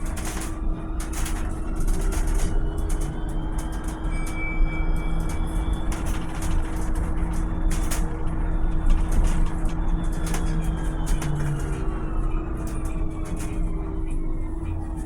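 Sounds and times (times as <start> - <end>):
electric bus running: 0.0 - 15.0.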